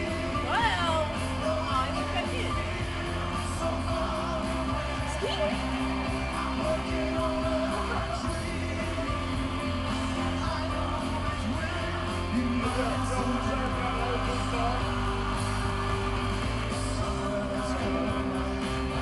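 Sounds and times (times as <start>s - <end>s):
backing singers: 0.0s - 19.0s
live rock band over speakers: 0.0s - 19.0s
man singing lead: 0.0s - 19.0s.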